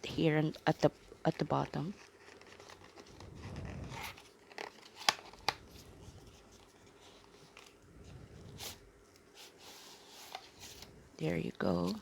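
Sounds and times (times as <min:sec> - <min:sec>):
faint packaging rustling: 0:00.2 - 0:12.0.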